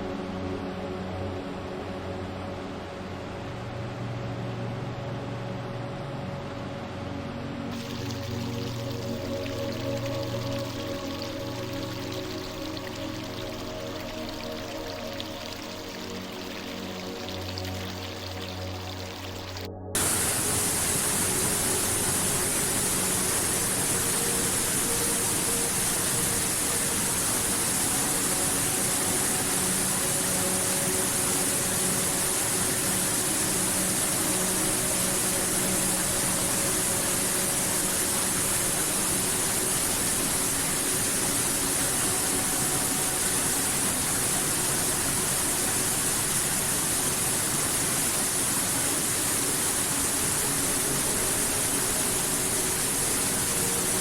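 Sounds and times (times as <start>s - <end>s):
rushing water: 7.7s - 54.0s.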